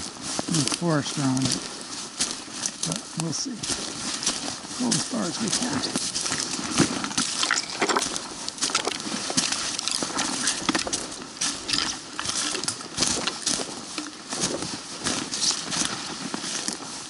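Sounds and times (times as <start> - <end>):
trekking poles striking ground: 0.0 - 16.8
footsteps crunching through dry leaves: 0.0 - 17.0.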